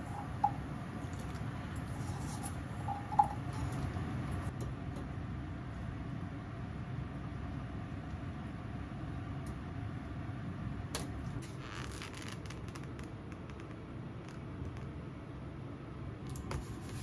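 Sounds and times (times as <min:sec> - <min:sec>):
low kitchen fan rumble: 0:00.0 - 0:17.0.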